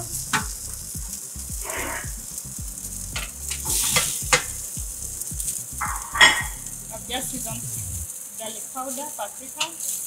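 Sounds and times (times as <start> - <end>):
potatoes sizzling in oven tray: 0.0 - 10.0.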